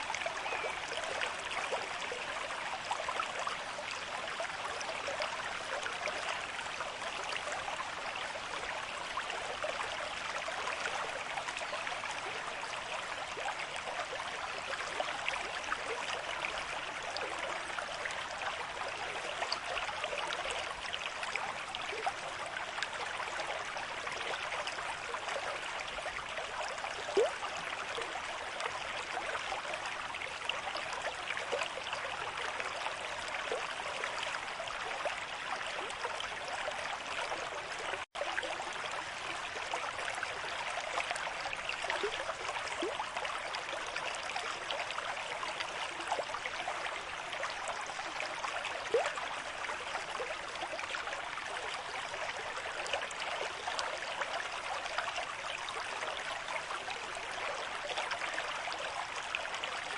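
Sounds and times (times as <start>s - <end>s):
river water rushing and burbling: 0.0s - 59.9s.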